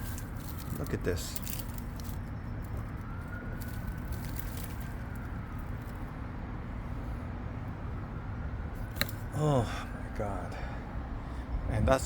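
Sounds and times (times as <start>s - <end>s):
distant wailing siren: 0.0s - 11.7s
low outdoor rumble: 0.0s - 12.0s.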